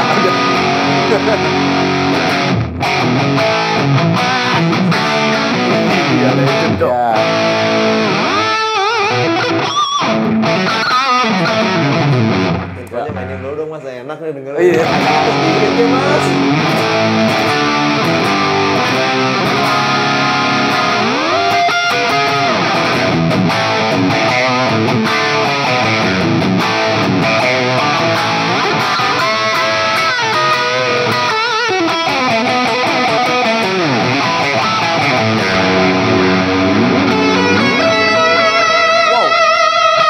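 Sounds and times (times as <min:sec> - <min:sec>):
overdriven electric guitar lead: 0:00.0 - 0:13.6, 0:14.7 - 0:40.0.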